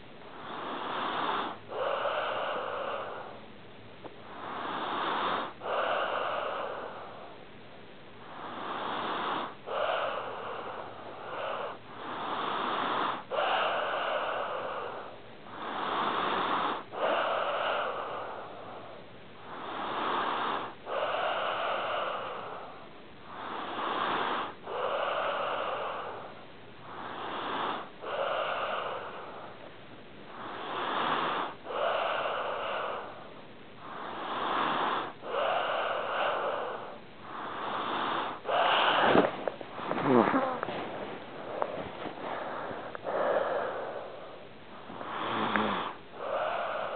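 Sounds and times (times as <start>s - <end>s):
pet snoring: 0.0s - 3.5s, 4.2s - 7.4s, 8.2s - 46.9s.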